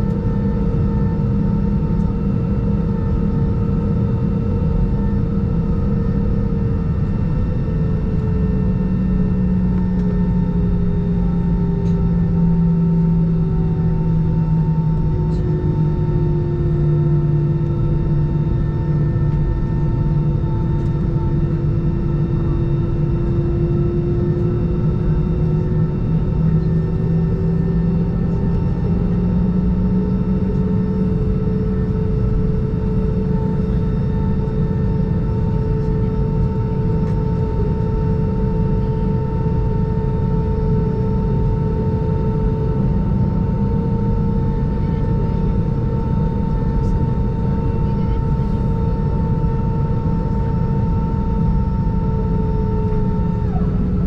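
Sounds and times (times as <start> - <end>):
jet engines rumbling and humming: 0.0 - 54.0.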